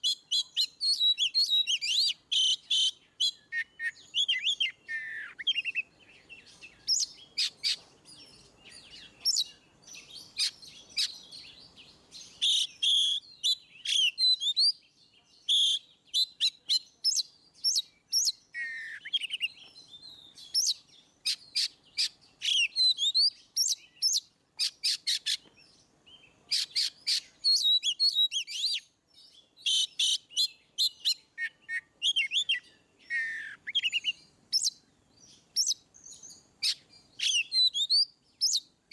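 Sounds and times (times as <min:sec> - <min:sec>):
songbird singing loudly: 0:00.0 - 0:38.9.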